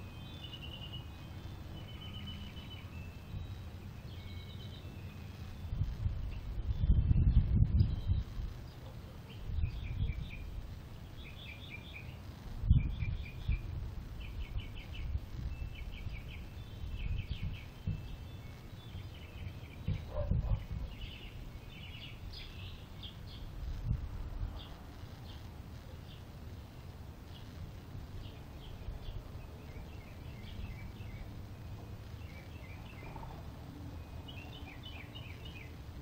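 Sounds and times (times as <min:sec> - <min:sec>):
small bird chirping: 0:00.0 - 0:36.0.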